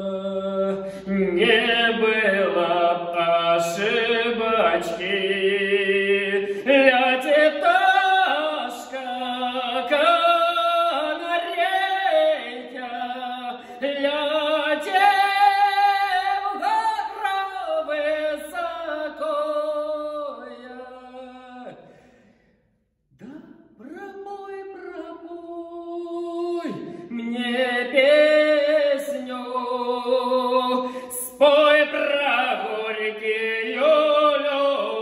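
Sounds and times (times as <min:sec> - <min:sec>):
man singing unaccompanied: 0:00.0 - 0:21.8, 0:23.2 - 0:35.0.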